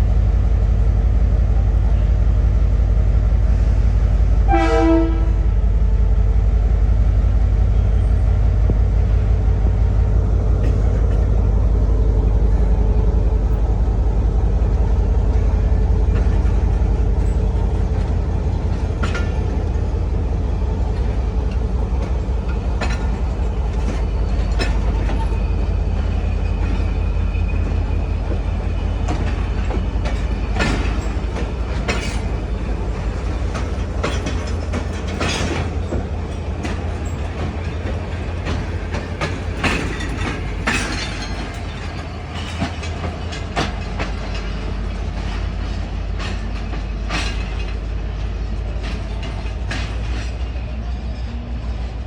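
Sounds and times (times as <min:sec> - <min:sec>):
train rumbling on rails: 0:00.0 - 0:52.0
wheels clacking over rail joints: 0:07.2 - 0:52.0.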